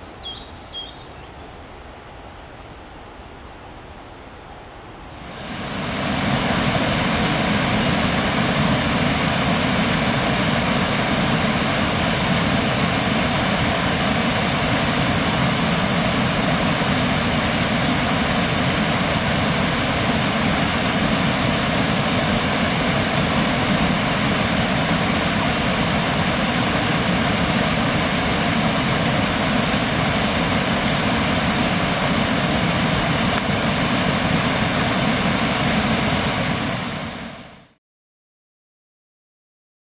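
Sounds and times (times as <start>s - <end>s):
river water rushing: 5.1s - 37.6s.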